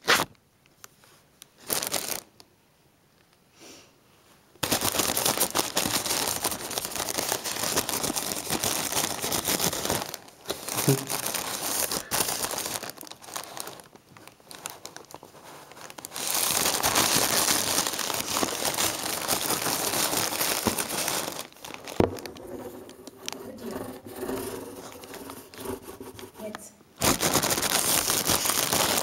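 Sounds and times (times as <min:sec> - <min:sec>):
plastic bag crinkling: 0:01.6 - 0:02.4, 0:04.6 - 0:29.0.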